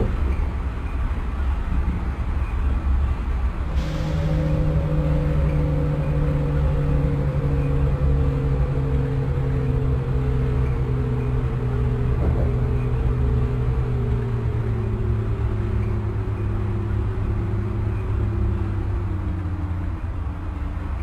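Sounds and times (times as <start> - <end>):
traction motor tones: 0.0 - 21.0
train rumble: 0.0 - 21.0.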